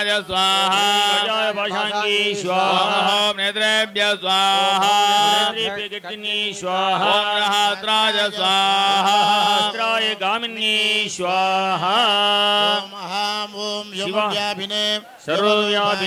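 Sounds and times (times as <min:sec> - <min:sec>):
men chanting mantras: 0:00.0 - 0:16.0.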